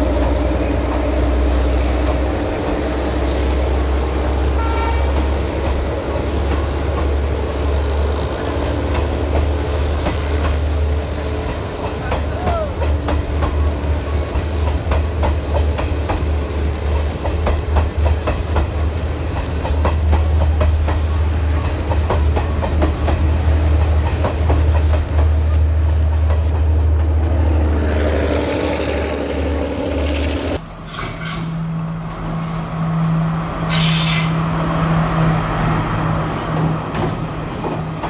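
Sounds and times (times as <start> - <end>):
train wheels clicking over rail joints: 0.0 - 34.6, 35.5 - 38.0.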